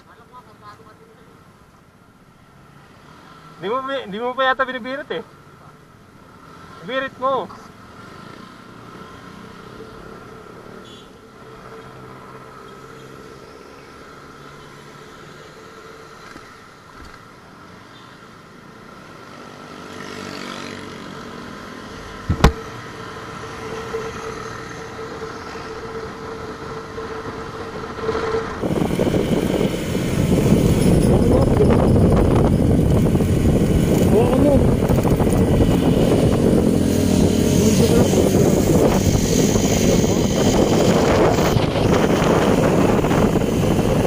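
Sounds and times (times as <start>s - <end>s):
motorcycle engine and road noise: 0.0s - 44.0s.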